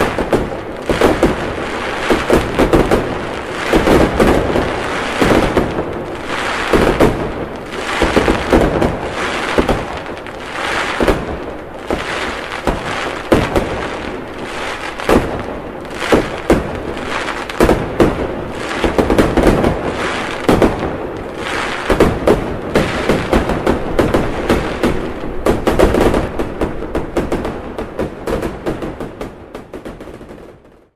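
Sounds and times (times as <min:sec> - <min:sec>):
fireworks bangs: 0:00.0 - 0:30.9
fireworks crackling: 0:00.0 - 0:30.9.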